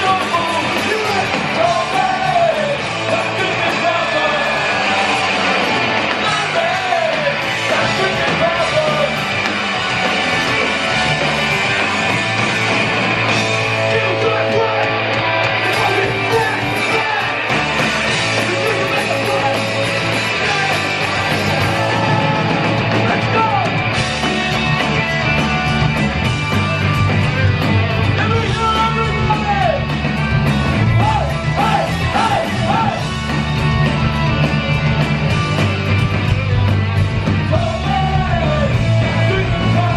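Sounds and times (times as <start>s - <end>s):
punk rock band playing live: 0.0s - 39.9s
shouted lead vocals: 0.0s - 39.9s.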